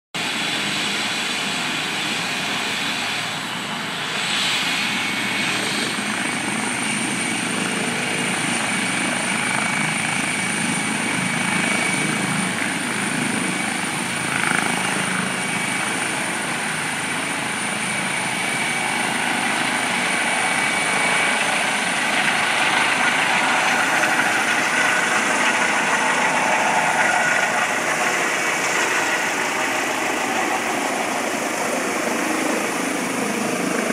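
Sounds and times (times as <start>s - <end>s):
helicopter flying overhead: 0.2s - 33.9s.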